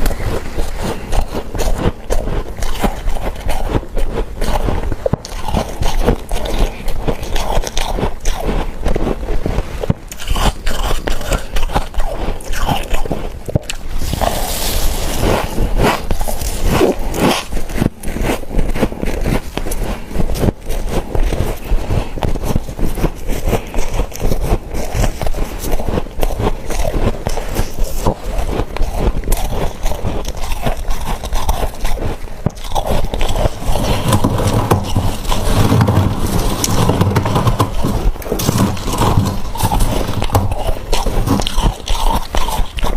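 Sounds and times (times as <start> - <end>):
crunching frost chunks: 0.0 - 42.9.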